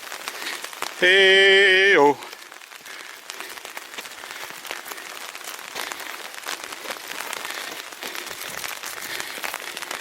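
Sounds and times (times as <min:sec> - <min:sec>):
rain pattering on an umbrella: 0:00.0 - 0:10.0.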